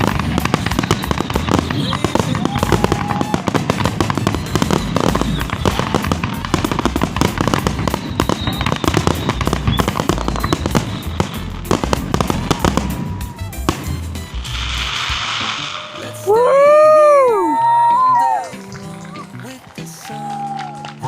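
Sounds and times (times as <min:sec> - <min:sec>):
fireworks bangs and crackles: 0:00.0 - 0:20.9.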